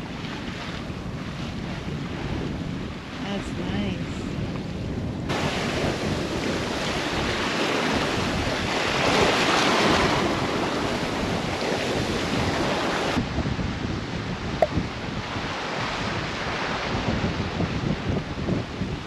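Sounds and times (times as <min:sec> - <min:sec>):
water rushing along a hull: 0:00.0 - 0:19.0
wind buffeting the microphone: 0:00.0 - 0:19.0.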